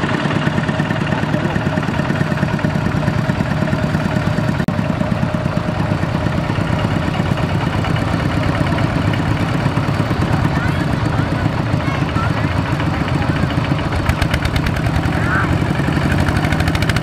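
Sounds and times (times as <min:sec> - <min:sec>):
tractor diesel engine puttering: 0:00.0 - 0:17.0.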